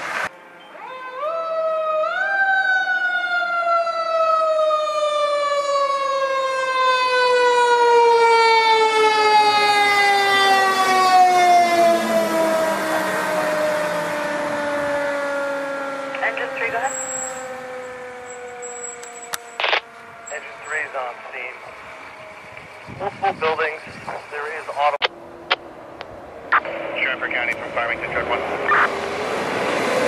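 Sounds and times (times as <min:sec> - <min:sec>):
mechanical siren wailing: 0:00.6 - 0:26.6.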